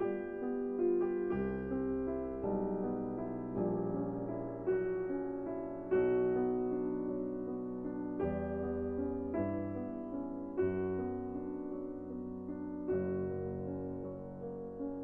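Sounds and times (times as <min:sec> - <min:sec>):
gentle piano slow chords: 0:00.0 - 0:15.0.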